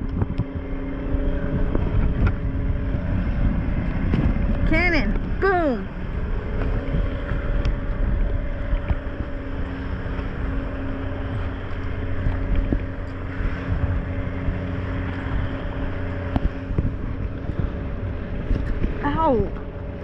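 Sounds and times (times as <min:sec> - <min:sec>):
boat engine humming: 0:00.0 - 0:20.0
water rushing: 0:00.0 - 0:20.0
wind noise on microphone: 0:00.0 - 0:20.0.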